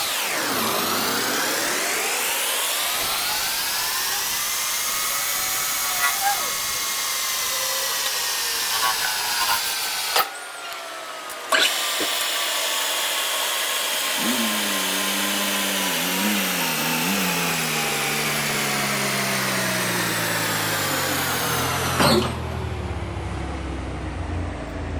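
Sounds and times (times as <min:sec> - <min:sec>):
metalworking machine whine: 0:00.0 - 0:24.9.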